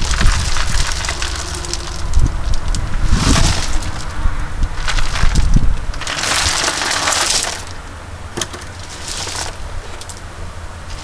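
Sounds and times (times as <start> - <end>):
rocks clattering onto stone pile: 0.0 - 4.2, 4.8 - 7.8, 8.4 - 10.2.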